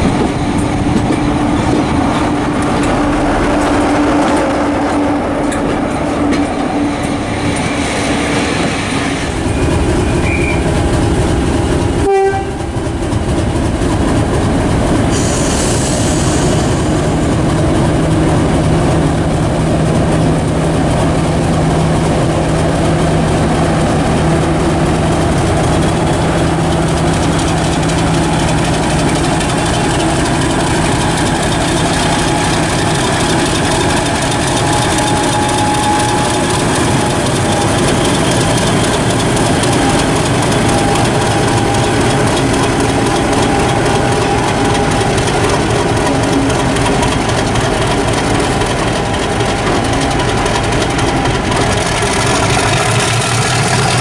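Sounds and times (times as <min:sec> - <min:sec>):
diesel locomotive engine hum: 0:00.0 - 0:54.0
railway coaches wheel clatter: 0:00.0 - 0:54.0.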